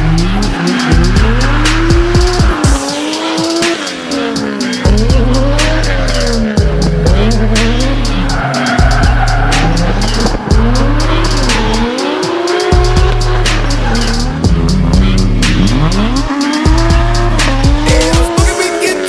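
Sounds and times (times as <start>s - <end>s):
car engine revving: 0.0s - 19.0s
music with heavy bass beat: 0.0s - 19.0s
tyres squealing: 0.0s - 19.0s.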